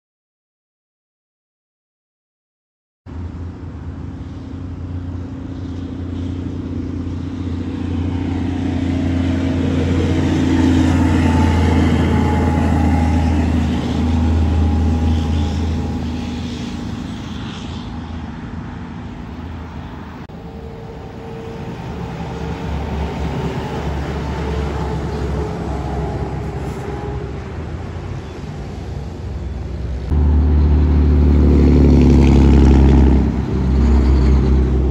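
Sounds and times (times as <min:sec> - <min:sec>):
trucks driving past: 0:03.1 - 0:34.9.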